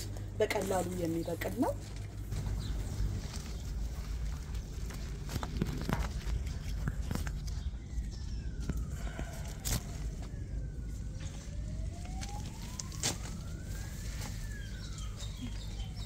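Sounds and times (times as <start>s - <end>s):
faint siren wailing: 0.0s - 16.0s
low rumble on microphone: 0.0s - 16.0s.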